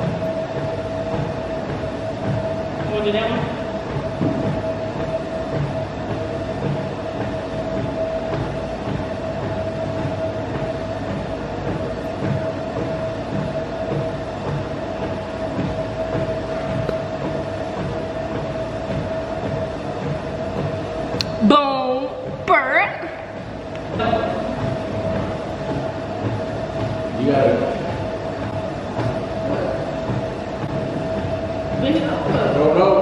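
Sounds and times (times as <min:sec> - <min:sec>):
mechanical drone with whine: 0:00.0 - 0:33.0.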